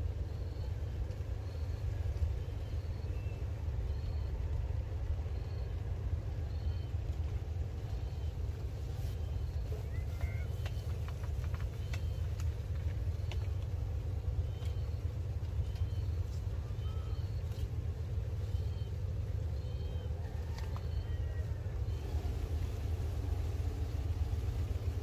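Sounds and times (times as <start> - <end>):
low outdoor rumble: 0.0 - 25.0
small birds chirping: 0.2 - 22.2.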